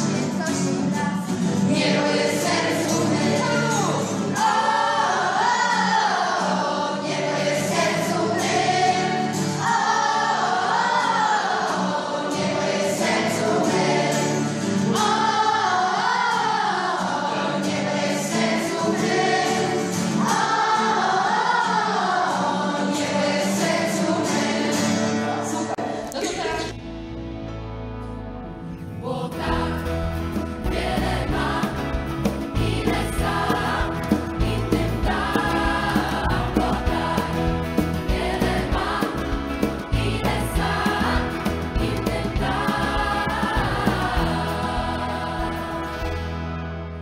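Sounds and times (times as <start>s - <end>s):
strummed acoustic guitar: 0.0s - 26.0s, 26.8s - 47.0s
children singing: 1.6s - 25.9s, 29.0s - 46.3s.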